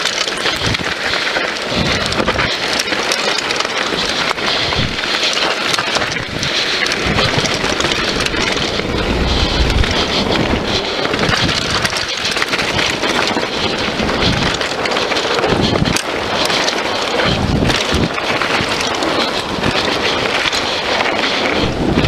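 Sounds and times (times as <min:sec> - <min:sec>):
bike knocks and rattles: 0:00.0 - 0:22.0
bike tyres on dirt: 0:00.0 - 0:22.0
wind buffeting microphone: 0:00.0 - 0:22.0.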